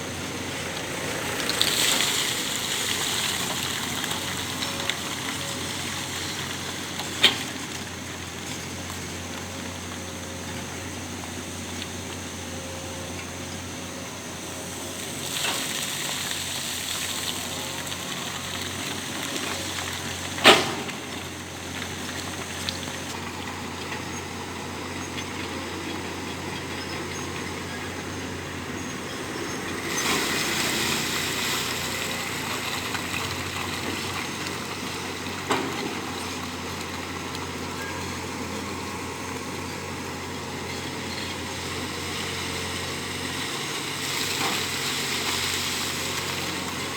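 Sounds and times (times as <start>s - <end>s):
heavy construction machinery running: 0.0s - 46.9s.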